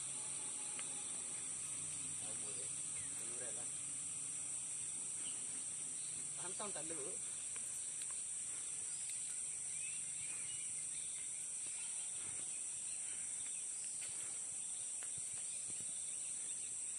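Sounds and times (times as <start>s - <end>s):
insect chorus drone: 0.0s - 16.9s.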